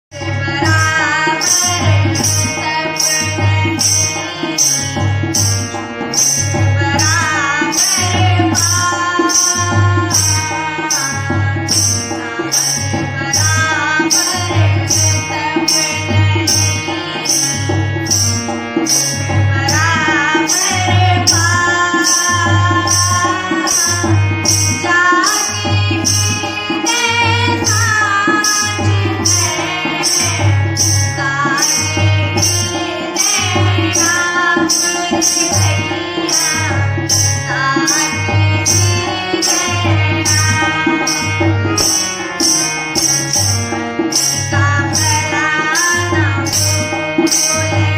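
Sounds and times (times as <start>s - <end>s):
tabla beat: 0.1s - 47.9s.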